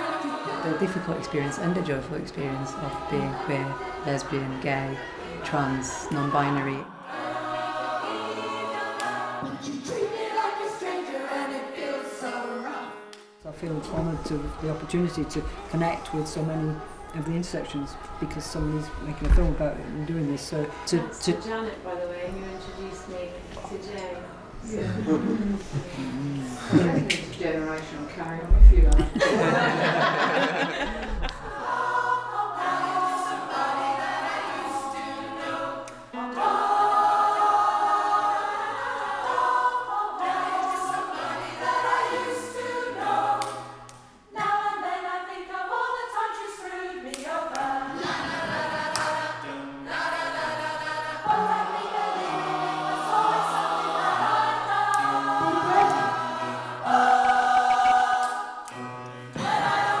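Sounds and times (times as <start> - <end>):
choir singing in harmony: 0.0 - 60.0.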